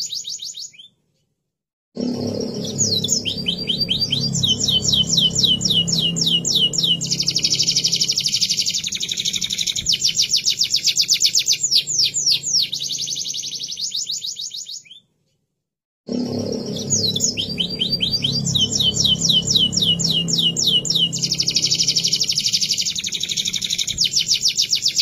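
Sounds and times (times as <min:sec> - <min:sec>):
canary singing trills: 0:00.0 - 0:00.9, 0:02.2 - 0:15.0, 0:16.2 - 0:25.0.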